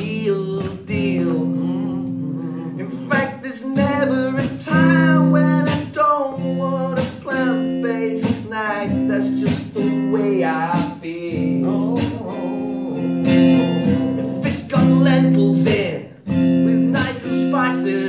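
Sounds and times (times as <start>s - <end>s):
electric guitar strumming: 0.0s - 18.0s
man singing: 0.0s - 18.0s.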